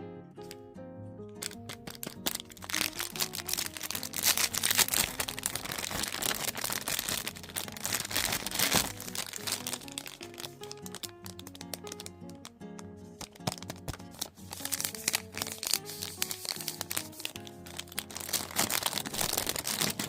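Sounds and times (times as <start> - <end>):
background music: 0.0 - 20.0
packaging crinkling: 1.4 - 20.0.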